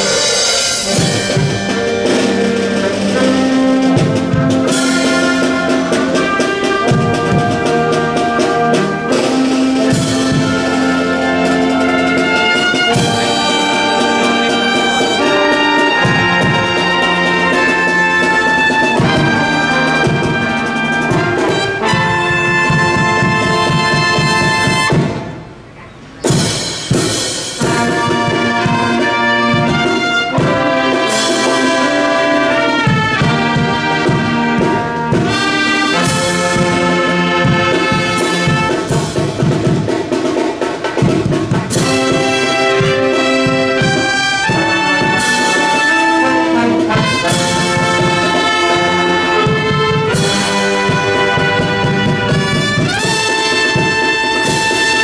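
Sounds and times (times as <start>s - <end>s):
marching band brass chords: 0.0s - 55.0s.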